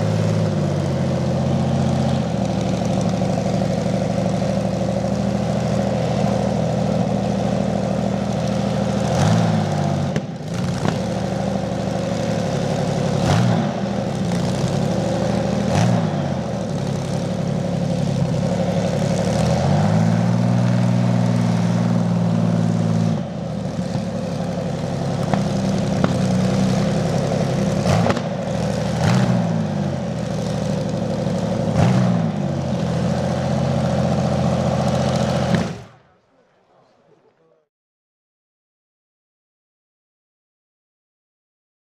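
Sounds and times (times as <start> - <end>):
tank engine idling and revving: 0.0 - 36.1.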